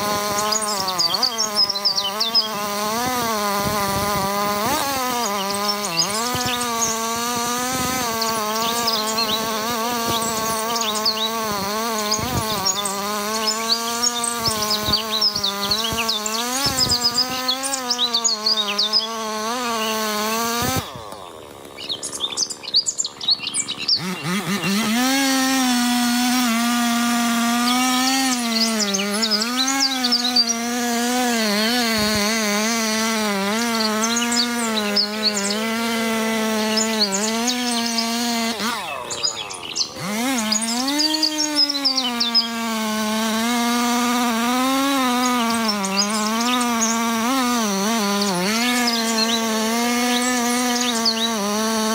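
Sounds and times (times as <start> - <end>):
birds chirping: 0.0 - 51.9
chainsaw running: 0.0 - 51.9.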